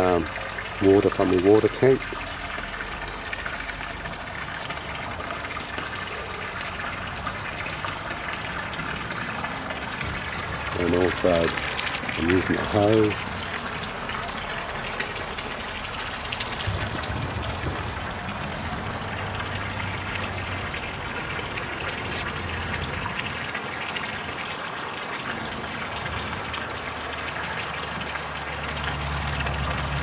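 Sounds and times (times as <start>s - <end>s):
hose water pouring into pool: 0.0s - 30.0s.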